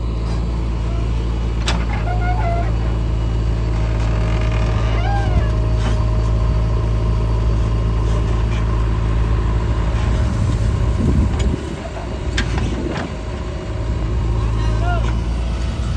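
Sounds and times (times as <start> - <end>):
diesel engine droning: 0.0 - 15.9.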